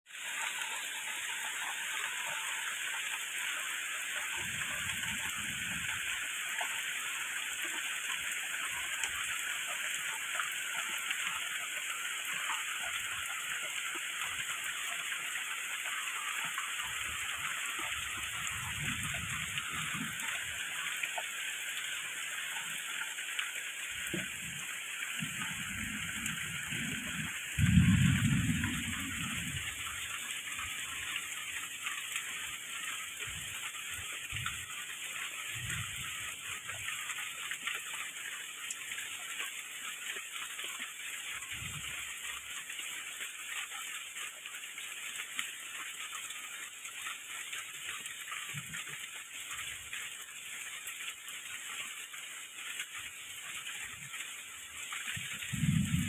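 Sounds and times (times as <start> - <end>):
steady rain falling: 0.1 - 56.0.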